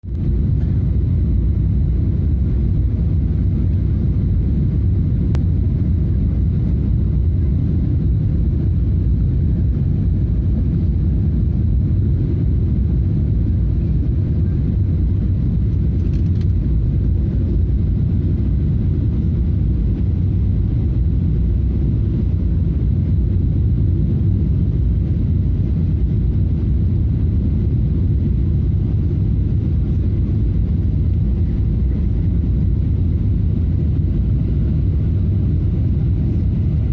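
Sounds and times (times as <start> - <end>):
airliner cabin engine rumble: 0.0 - 36.9.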